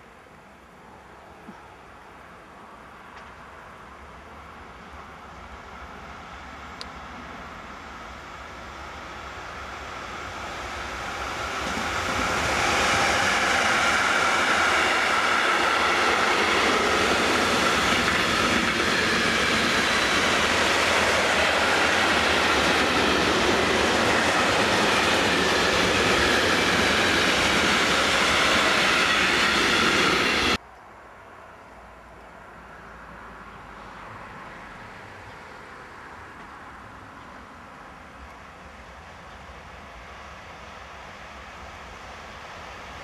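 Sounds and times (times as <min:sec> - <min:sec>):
freight train passing: 0:00.8 - 0:30.6, 0:32.4 - 0:43.0.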